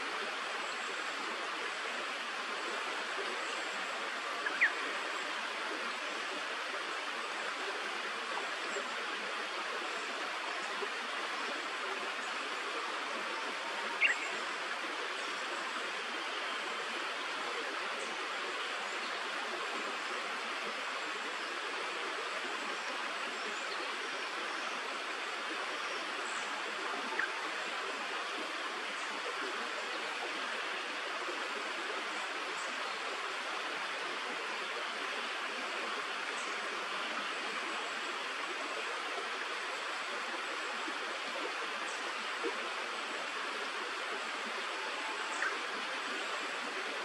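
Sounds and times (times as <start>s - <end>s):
stream water flowing: 0.0s - 47.0s.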